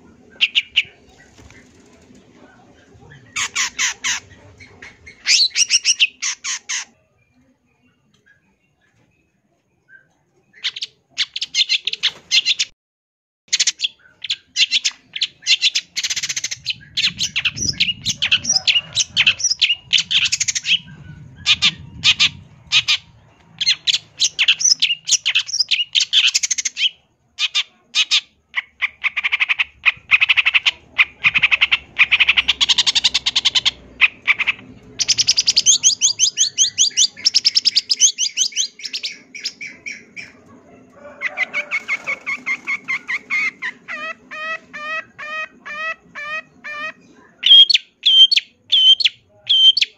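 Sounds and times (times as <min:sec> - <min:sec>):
bird singing harsh chattering song: 0:00.0 - 0:07.0, 0:10.0 - 0:12.7, 0:13.5 - 0:40.4, 0:41.7 - 0:49.9.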